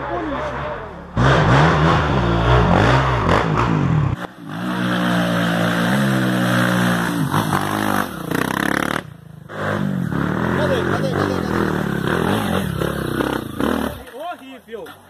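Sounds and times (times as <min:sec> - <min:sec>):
dirt bike engine revving: 0:00.0 - 0:14.2.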